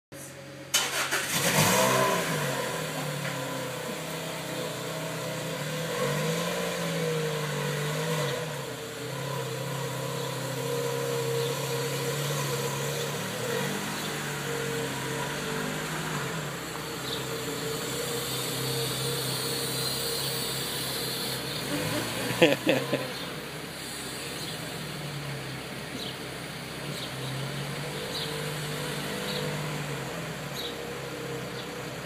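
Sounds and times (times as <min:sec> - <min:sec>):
car engine starting and idling: 0:00.2 - 0:32.0.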